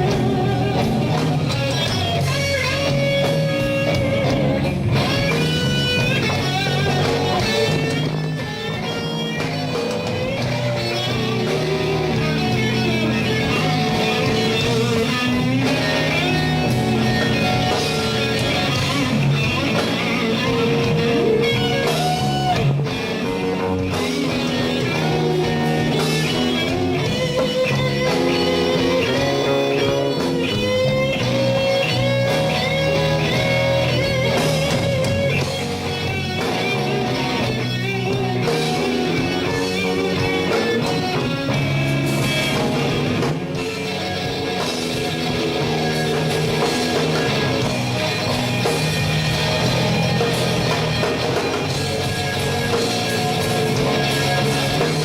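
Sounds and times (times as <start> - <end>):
bass: 0.0 - 55.0
drums: 0.0 - 55.0
electric guitar blues solo: 0.0 - 55.0.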